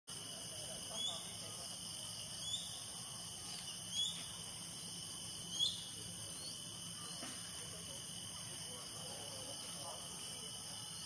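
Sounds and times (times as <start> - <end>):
high insect drone: 0.1 - 11.0.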